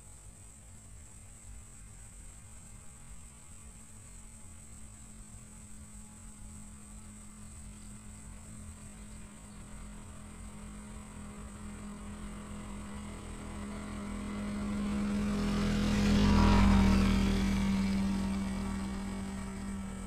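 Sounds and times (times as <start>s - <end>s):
faint high-pitched hiss: 0.0s - 20.0s
low steady hum: 0.0s - 20.0s.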